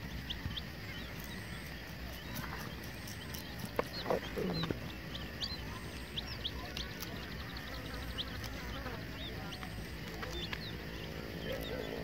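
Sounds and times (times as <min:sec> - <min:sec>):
baby chickens peeping: 0:00.0 - 0:12.0.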